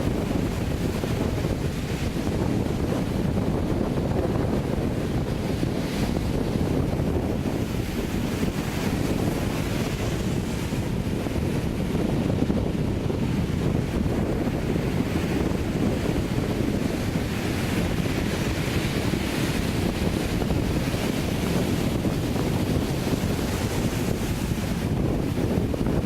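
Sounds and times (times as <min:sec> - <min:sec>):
sea surf washing up beach: 0:00.0 - 0:26.0
wind buffeting microphone: 0:00.0 - 0:26.0.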